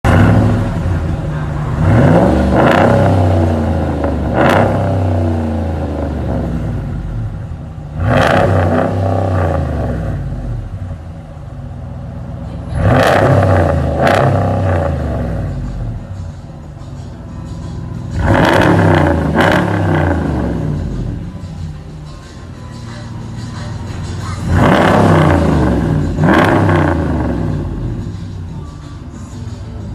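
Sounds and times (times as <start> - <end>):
engine idling and revving: 0.0 - 29.9.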